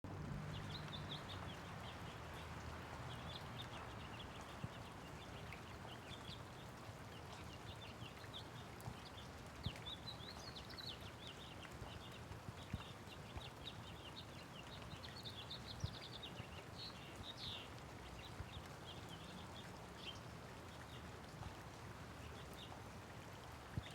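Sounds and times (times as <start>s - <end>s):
light rain on a wet road: 0.1s - 23.9s
small birds chirping: 0.2s - 23.9s.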